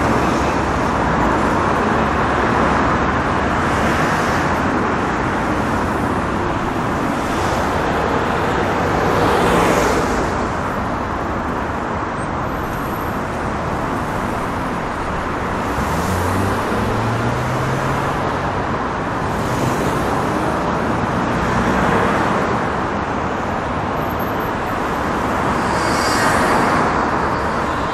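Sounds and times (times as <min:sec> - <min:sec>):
heavy street traffic: 0:00.0 - 0:27.9
vehicles passing close: 0:00.0 - 0:27.9.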